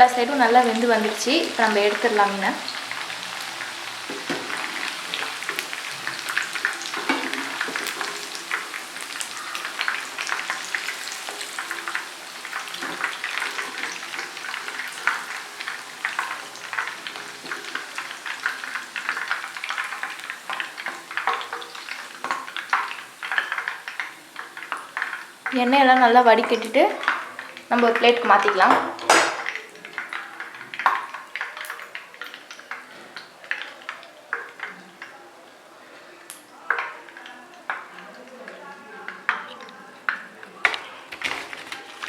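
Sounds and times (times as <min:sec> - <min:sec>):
fish frying in hot oil: 0:00.0 - 0:42.0.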